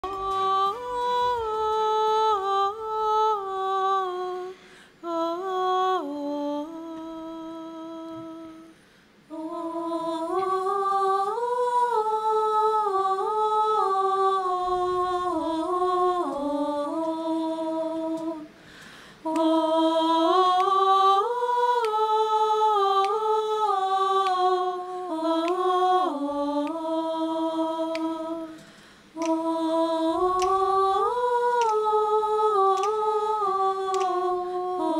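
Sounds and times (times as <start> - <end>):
a cappella group singing: 0.0 - 34.9.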